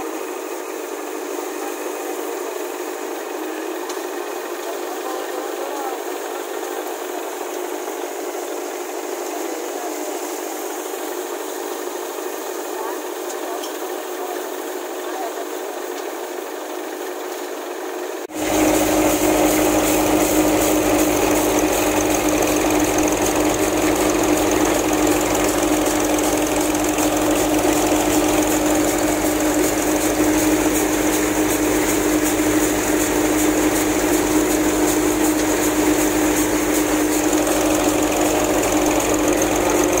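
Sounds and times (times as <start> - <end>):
thresher mechanical hum and rattle: 0.0 - 40.0.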